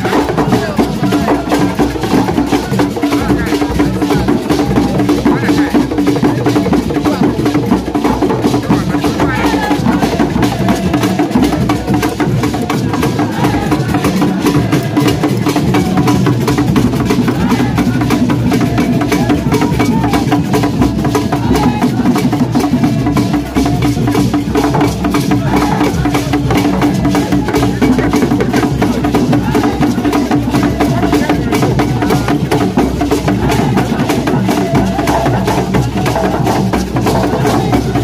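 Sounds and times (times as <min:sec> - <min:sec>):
crowd voices: 0:00.0 - 0:38.0
hand drums playing fast rhythm: 0:00.0 - 0:38.0.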